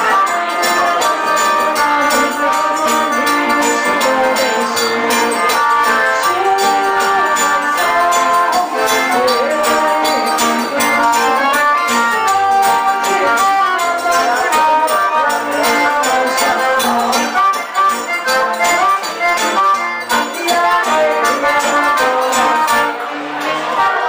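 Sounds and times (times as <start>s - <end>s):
drum and hand percussion beat: 0.0s - 23.8s
accordion melody: 0.0s - 24.0s
guitar: 0.0s - 24.0s.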